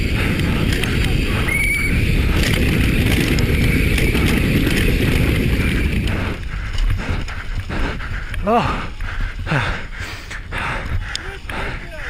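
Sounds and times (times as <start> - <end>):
wind on microphone: 0.0 - 11.7
mountain bike rattling over trail: 0.0 - 12.0.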